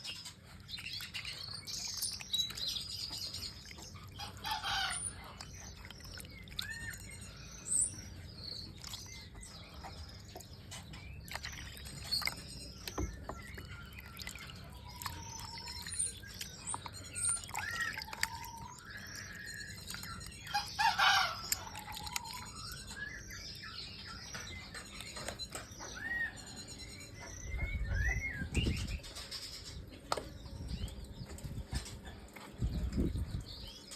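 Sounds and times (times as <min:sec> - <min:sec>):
small birds chirping: 0:00.0 - 0:33.9
harsh bird calls: 0:01.0 - 0:33.9.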